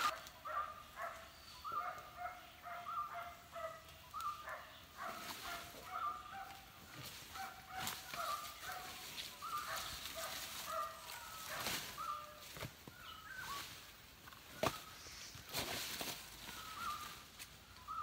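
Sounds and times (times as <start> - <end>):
dry palm leaves crackling: 0.0 - 0.6, 4.1 - 18.0.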